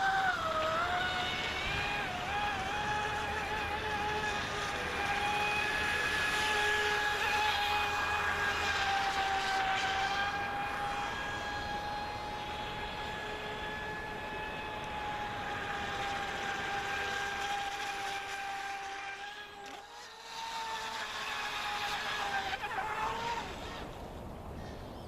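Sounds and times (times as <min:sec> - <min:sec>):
rc boat motor whine: 0:00.0 - 0:25.0.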